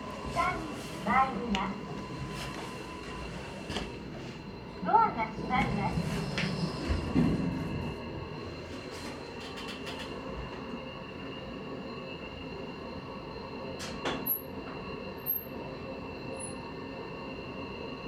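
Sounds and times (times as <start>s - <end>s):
elevator humming: 0.0s - 15.3s.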